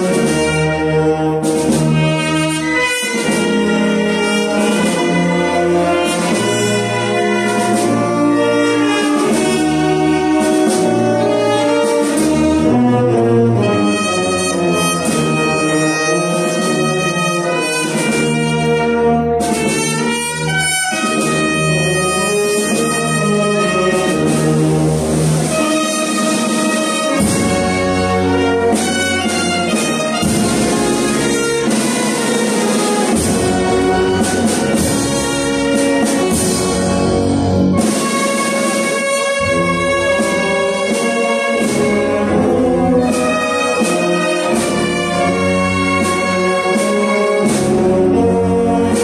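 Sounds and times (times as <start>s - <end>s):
brass band funeral march: 0.0s - 49.0s.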